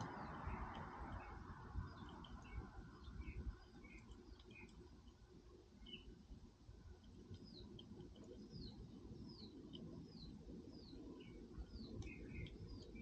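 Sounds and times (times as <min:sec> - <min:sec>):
small bird chirping: 0:00.0 - 0:06.2, 0:07.0 - 0:13.0.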